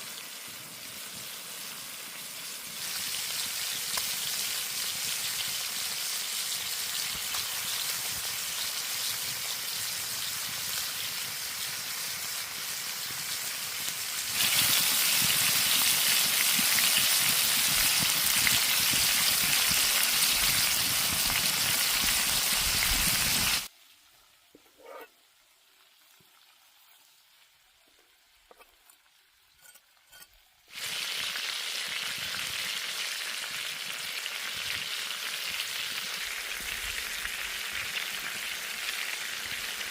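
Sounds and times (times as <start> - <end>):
food sizzling: 0.0 - 39.9.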